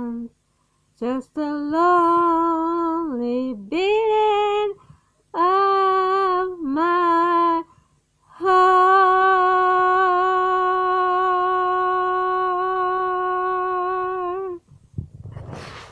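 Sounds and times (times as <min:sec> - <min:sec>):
woman singing unaccompanied: 0:00.0 - 0:00.4, 0:01.0 - 0:14.7.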